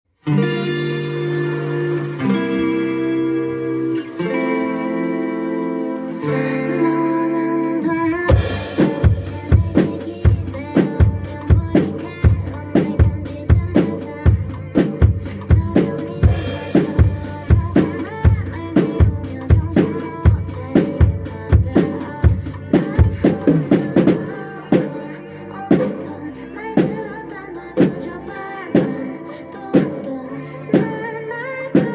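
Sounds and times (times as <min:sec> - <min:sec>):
pop song backing track: 0:00.2 - 0:31.9.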